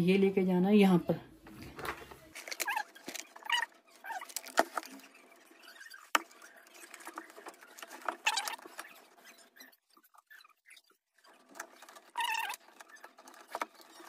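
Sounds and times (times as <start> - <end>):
rustling and scraping handling noise: 1.4 - 14.0.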